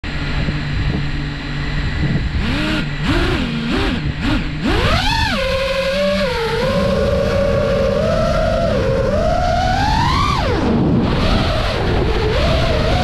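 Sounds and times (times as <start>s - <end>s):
quadcopter motors whining: 0.1s - 13.0s.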